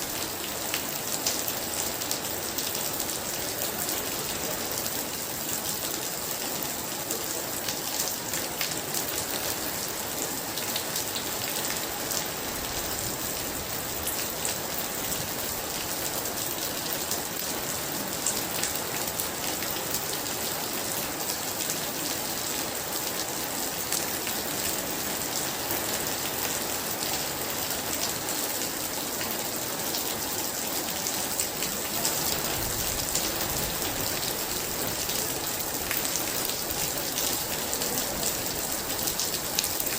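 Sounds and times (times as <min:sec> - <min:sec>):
very heavy rain: 0:00.0 - 0:39.9.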